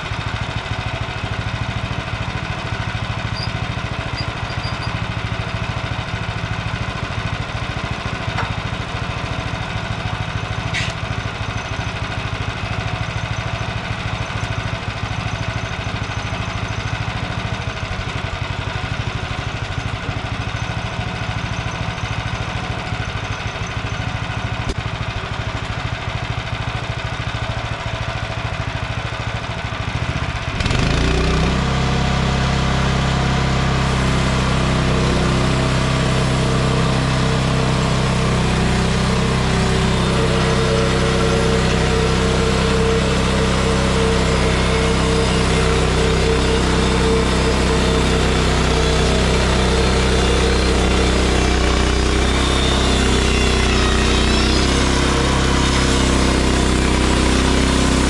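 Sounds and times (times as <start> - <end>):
sawmill gas engine running: 0.0 - 58.0.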